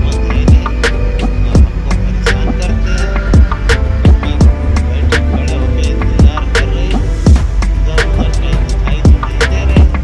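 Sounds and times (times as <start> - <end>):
background music with kick drums: 0.0 - 10.0
sharp percussion hits: 0.1 - 10.0.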